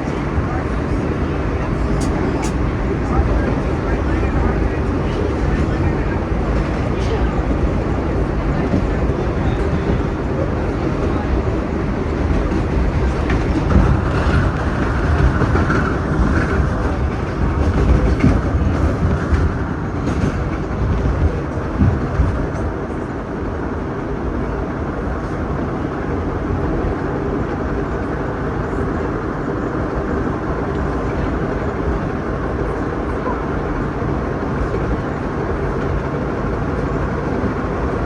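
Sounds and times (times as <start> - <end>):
subway train rumbling on rails: 0.0 - 38.0.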